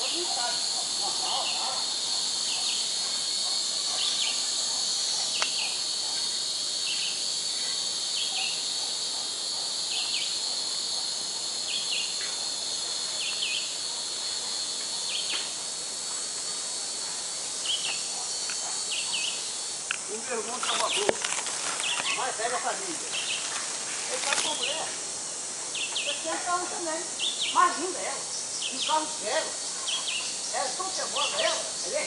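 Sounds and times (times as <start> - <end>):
insect chorus: 0.0 - 32.0.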